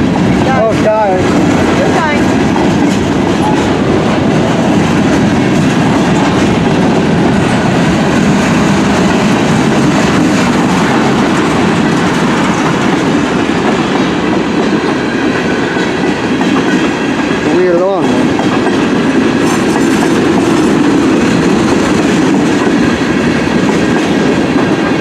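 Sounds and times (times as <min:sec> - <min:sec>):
freight train rumbling: 0:00.0 - 0:25.0
wheels clattering over rails: 0:00.3 - 0:25.0.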